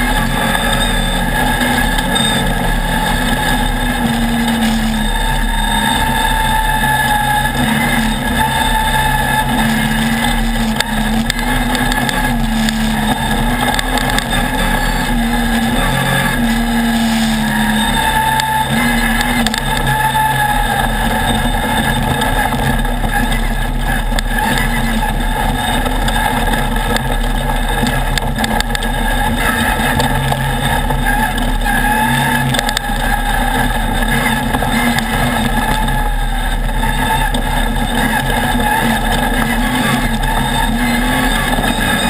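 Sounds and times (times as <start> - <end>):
buggy engine running hard: 0.0 - 42.0.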